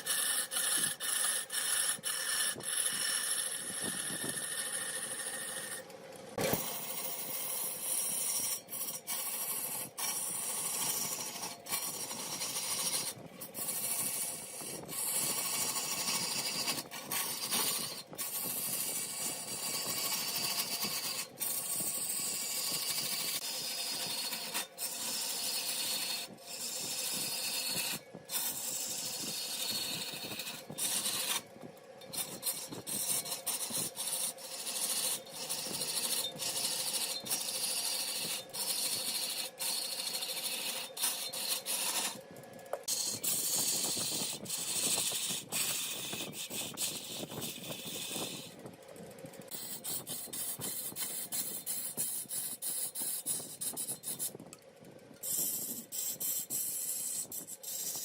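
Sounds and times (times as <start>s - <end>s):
lathe tool scraping wood: 0.0s - 48.6s, 49.4s - 54.6s, 55.2s - 58.0s.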